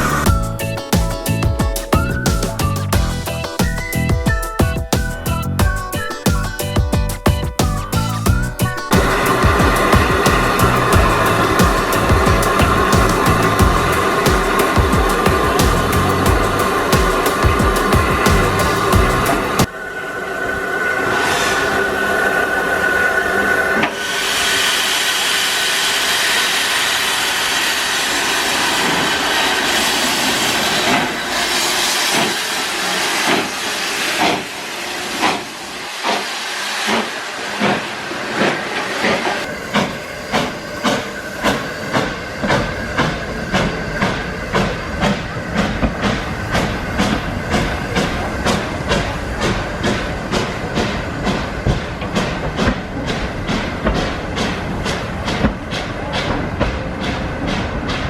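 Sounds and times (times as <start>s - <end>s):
steam hissing: 0.0s - 4.0s, 7.6s - 58.0s
steam locomotive exhaust chuffs: 0.0s - 58.0s.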